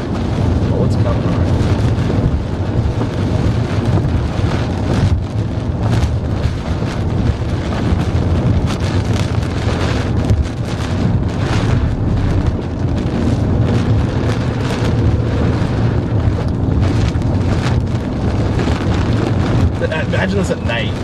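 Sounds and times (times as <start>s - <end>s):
car driving on road: 0.0s - 21.0s
wind buffeting a car: 0.0s - 21.0s.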